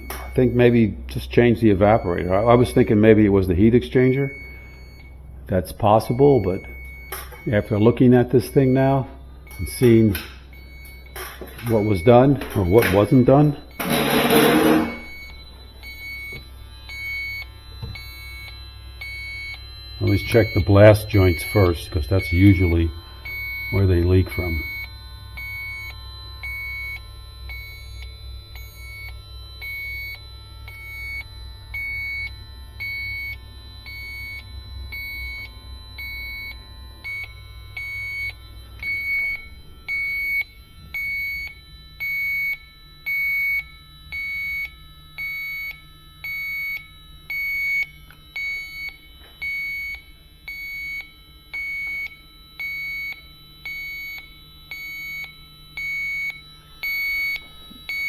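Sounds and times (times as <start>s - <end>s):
low hum: 0.0s - 50.8s
leak detector beeping: 0.0s - 58.0s.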